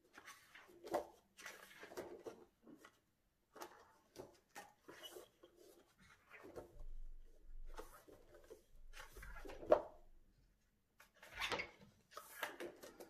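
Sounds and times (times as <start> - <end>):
paper pages rustling: 0.0 - 9.9, 11.0 - 13.0.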